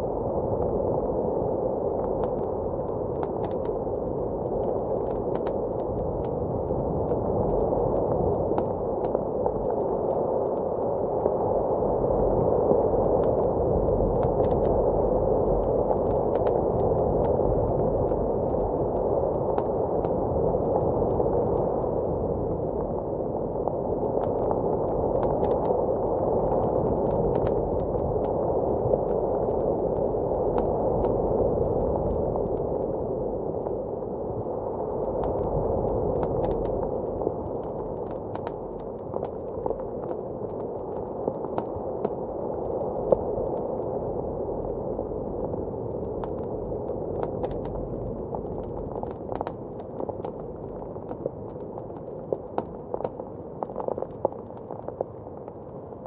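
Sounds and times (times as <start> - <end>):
muffled blizzard wind: 0.0 - 56.0
wood fire crackling and popping: 2.0 - 11.3, 12.9 - 55.7.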